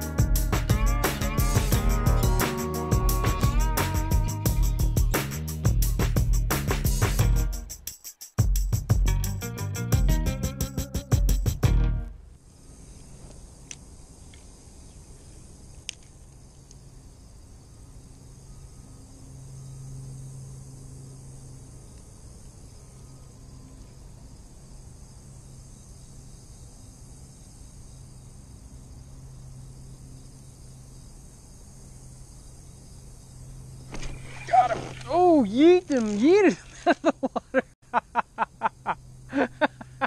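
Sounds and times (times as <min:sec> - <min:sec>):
insect chorus buzzing: 0:00.0 - 0:09.9, 0:12.3 - 0:40.0.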